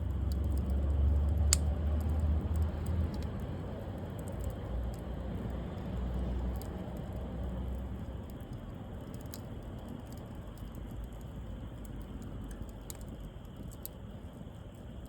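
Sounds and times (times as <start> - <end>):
bonfire hiss and rumble: 0.0 - 15.0
fire crackles and pops: 0.0 - 15.0.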